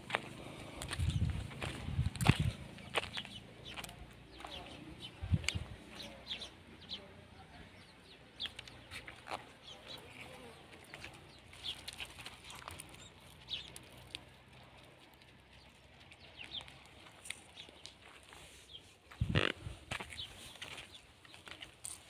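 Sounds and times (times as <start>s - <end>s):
faint bird chirps and clucks: 0.9s - 21.7s.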